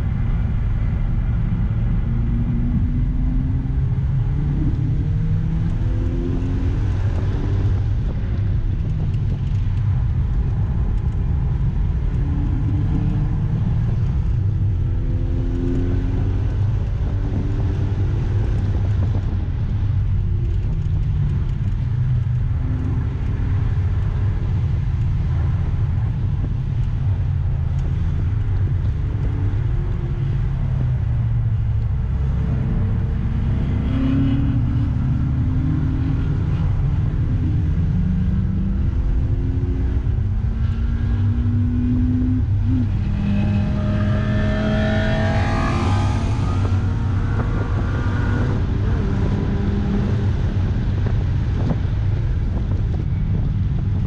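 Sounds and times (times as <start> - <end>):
car engine revving: 0.0 - 53.5
road and wind noise: 0.0 - 54.0.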